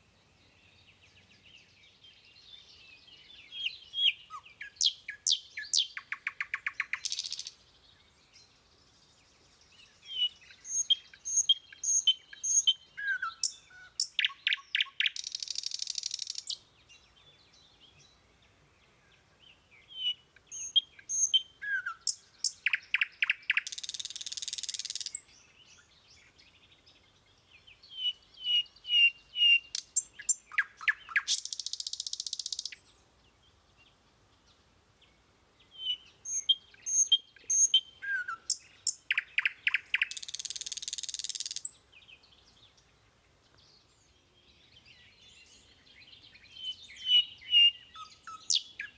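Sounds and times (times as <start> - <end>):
birds chirping and trilling: 0.1 - 48.9.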